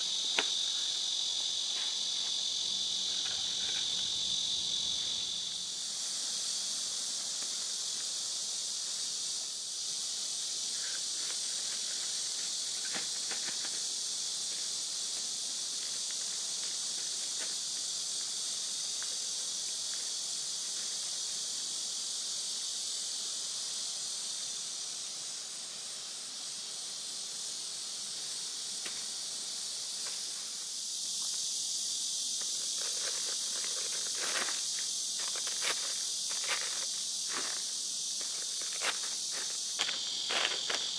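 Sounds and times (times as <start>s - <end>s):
insects chorus: 0.0s - 40.9s.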